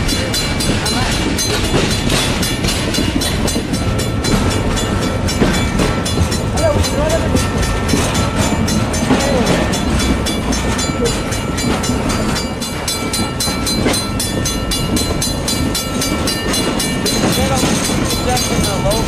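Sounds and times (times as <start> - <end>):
clickety-clack over rail joints: 0.0 - 19.0
train wheels rumbling on rail: 0.0 - 19.0.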